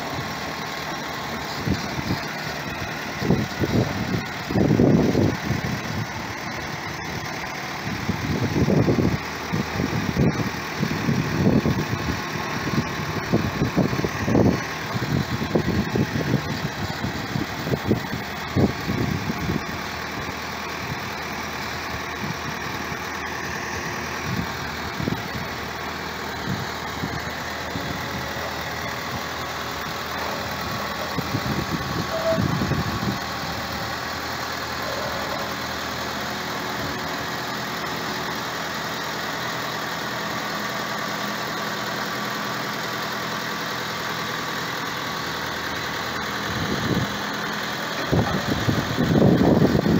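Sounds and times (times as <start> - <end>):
diesel engine running slowly: 0.0 - 49.9.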